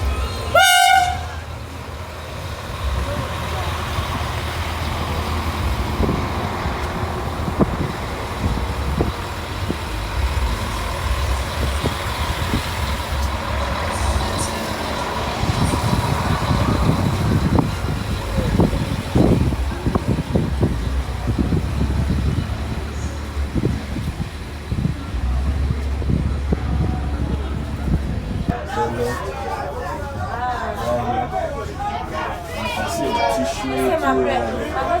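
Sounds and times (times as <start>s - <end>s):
heavy vehicle engine rumbling: 0.0s - 35.0s.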